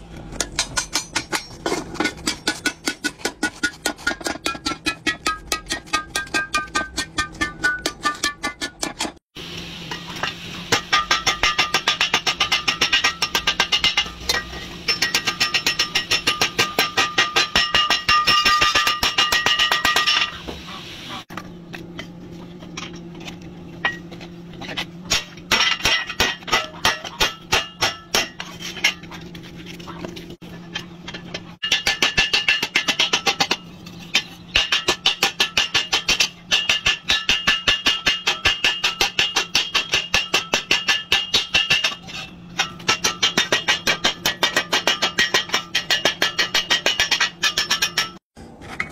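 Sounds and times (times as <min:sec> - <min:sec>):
hammers clanging on steel: 0:00.2 - 0:09.2, 0:09.8 - 0:22.1, 0:23.8 - 0:29.2, 0:30.4 - 0:48.4.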